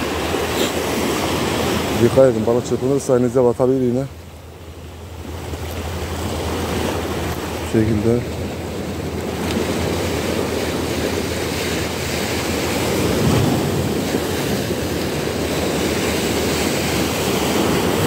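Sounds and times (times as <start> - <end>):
sea washing against shore: 0.0 - 18.0.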